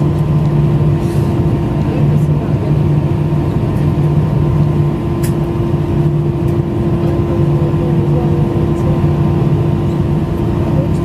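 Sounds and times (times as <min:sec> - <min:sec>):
pulsing low hum: 0:00.0 - 0:11.0.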